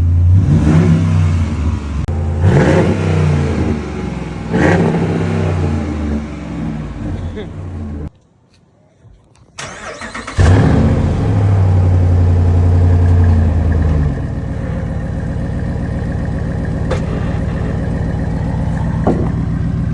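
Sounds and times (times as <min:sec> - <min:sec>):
car engine revving and idling: 0:00.0 - 0:08.1, 0:09.9 - 0:19.9.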